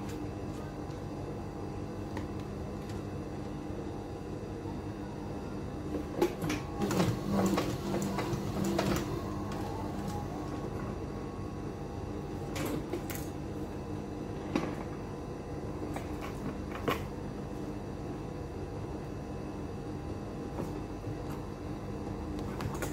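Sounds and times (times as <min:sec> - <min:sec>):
steady hum: 0:00.0 - 0:22.9.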